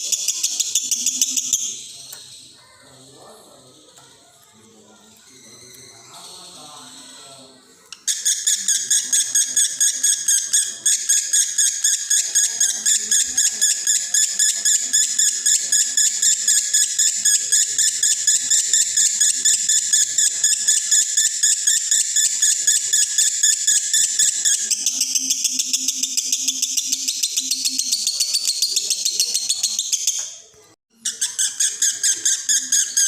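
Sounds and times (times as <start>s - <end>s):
lovebird chattering trill: 0.0s - 2.9s, 8.0s - 30.4s, 31.0s - 33.0s.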